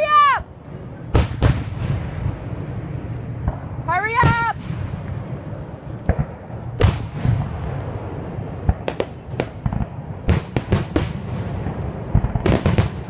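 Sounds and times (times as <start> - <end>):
continuous low rumble: 0.0 - 13.0
fireworks bangs: 0.0 - 13.0.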